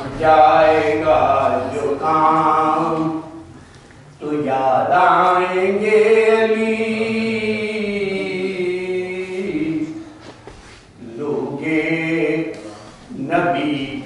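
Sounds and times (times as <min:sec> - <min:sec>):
man chanting: 0:00.0 - 0:03.5, 0:04.2 - 0:10.2, 0:11.0 - 0:14.0.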